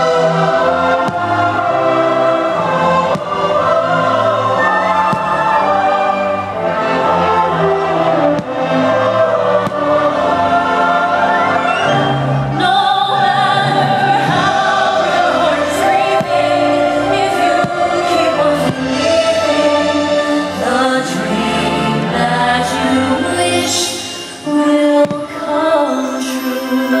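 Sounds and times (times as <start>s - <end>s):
choral music with singing: 0.0s - 27.0s.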